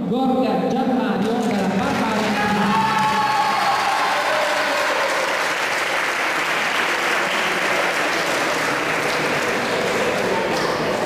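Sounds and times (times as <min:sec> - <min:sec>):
audience clapping: 0:01.2 - 0:11.0.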